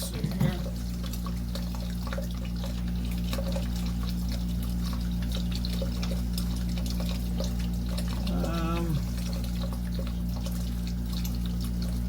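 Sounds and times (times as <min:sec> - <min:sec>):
low steady hum: 0:00.0 - 0:12.0
small drips and clicks: 0:00.0 - 0:12.0
water pouring into a funnel: 0:00.0 - 0:12.0.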